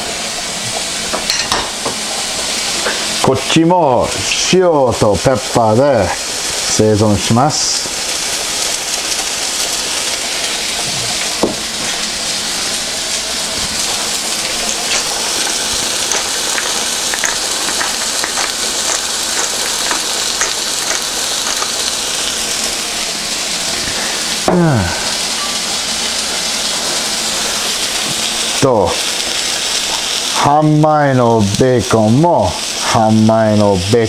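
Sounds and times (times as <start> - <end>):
burger patty sizzling on a griddle: 0.0 - 34.0.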